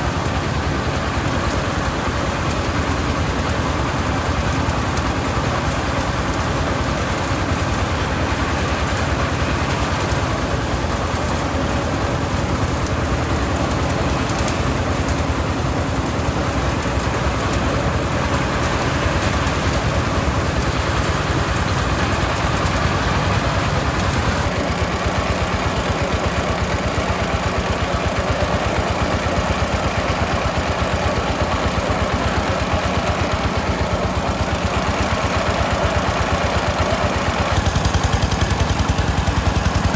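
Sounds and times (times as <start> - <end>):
engine beating rapidly: 0.0 - 39.9
threshing machine running: 0.0 - 39.9.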